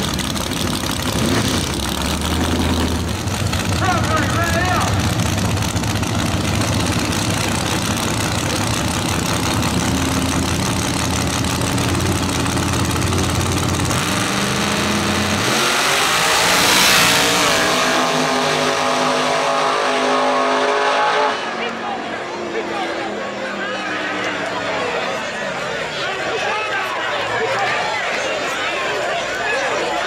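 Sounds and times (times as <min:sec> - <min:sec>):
pickup truck engines launching: 0:00.0 - 0:30.0
trucks idling at starting line: 0:00.0 - 0:30.0.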